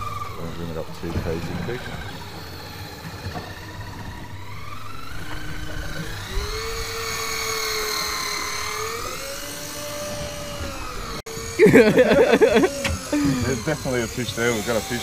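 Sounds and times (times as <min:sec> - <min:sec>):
electric fishing reel motor whining: 0:00.0 - 0:15.0
low hum: 0:00.0 - 0:15.0.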